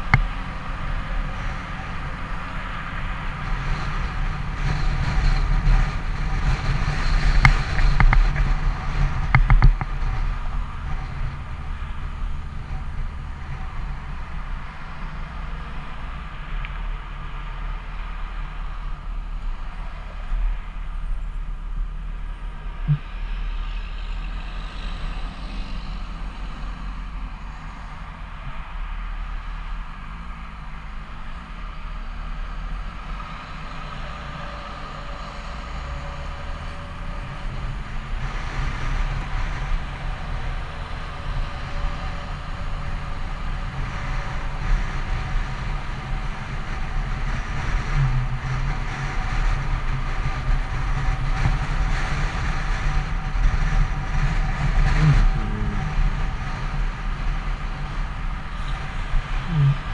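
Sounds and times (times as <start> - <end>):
motorcycle engine at speed: 0.0 - 59.9
wind and road rush: 0.0 - 59.9.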